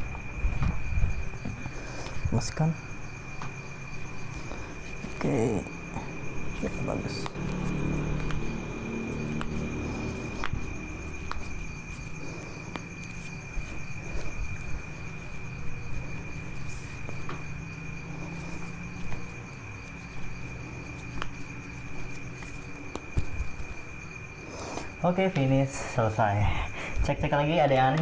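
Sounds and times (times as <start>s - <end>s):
crickets trilling: 0.0s - 28.0s
low background hum: 0.0s - 28.0s.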